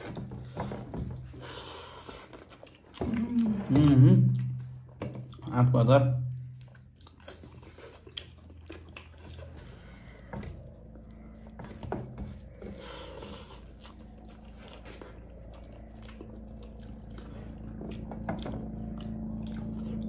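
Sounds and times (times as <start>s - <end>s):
faint low hum: 0.0s - 20.0s
wet chewing sounds: 0.0s - 20.0s.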